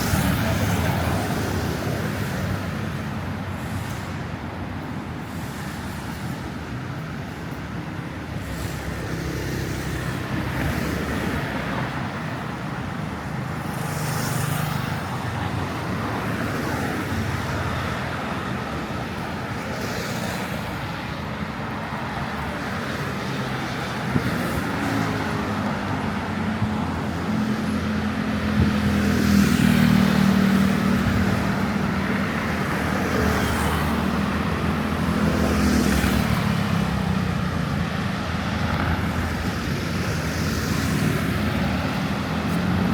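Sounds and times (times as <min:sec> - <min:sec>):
cars going by: 0:00.0 - 0:42.9.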